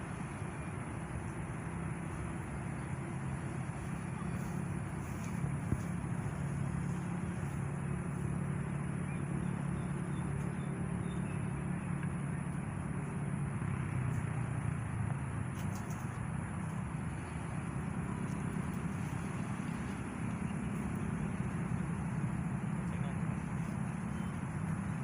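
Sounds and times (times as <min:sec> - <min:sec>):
distant road traffic hum: 0:00.0 - 0:25.0.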